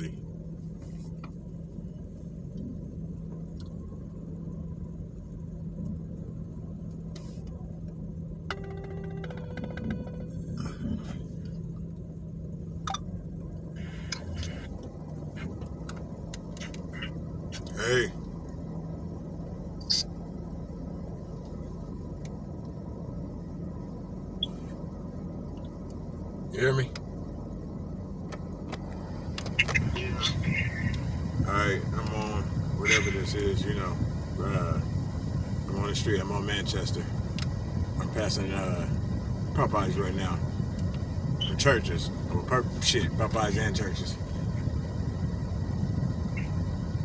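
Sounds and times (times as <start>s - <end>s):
constant hum: 0.0s - 47.0s
road and engine rumble: 0.0s - 47.0s.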